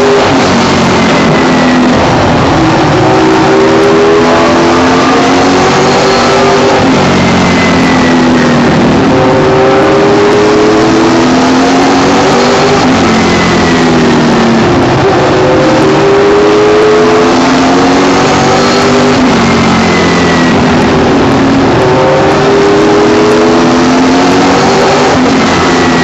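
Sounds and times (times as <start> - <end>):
race car engine revving: 0.0 - 26.0
wind and road noise: 0.0 - 26.0.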